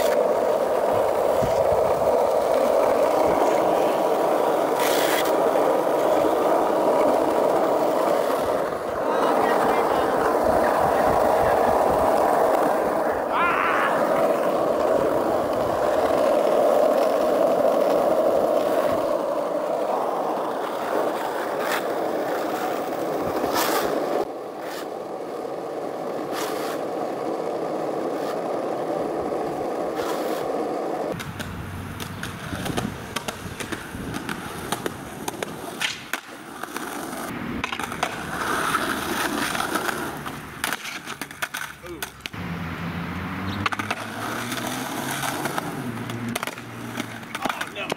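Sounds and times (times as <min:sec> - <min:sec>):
skateboard wheels rolling on asphalt: 0:00.0 - 0:47.9.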